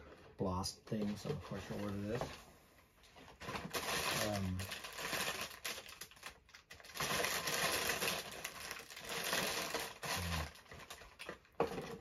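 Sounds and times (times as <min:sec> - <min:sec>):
plastic bag rustling: 0:00.9 - 0:02.5, 0:03.1 - 0:12.0.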